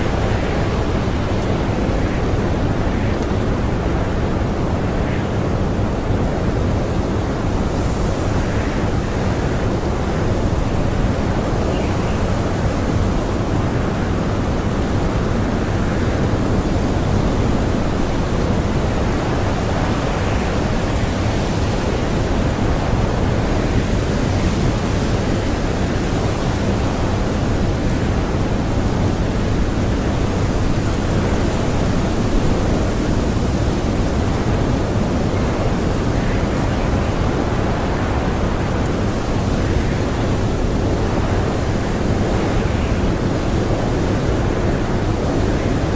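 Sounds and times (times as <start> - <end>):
blizzard wind blowing hard: 0.0 - 45.9.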